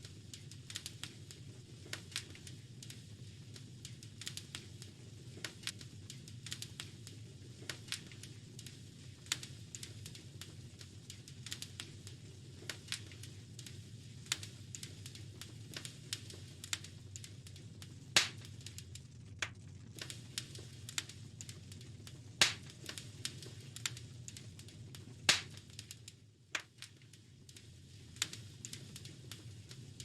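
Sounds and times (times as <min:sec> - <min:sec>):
low fire rumble: 0:00.0 - 0:30.0
wood fire crackling: 0:00.0 - 0:30.0
loud fire pops: 0:00.1 - 0:30.0.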